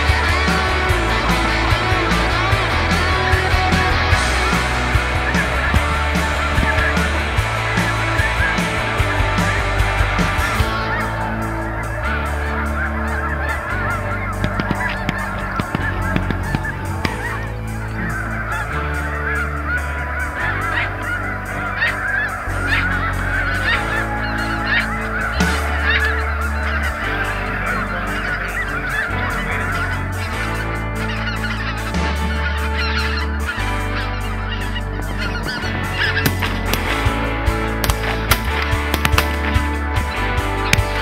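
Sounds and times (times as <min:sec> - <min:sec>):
background music of low notes: 0:00.0 - 0:41.0
geese honking: 0:00.0 - 0:41.0.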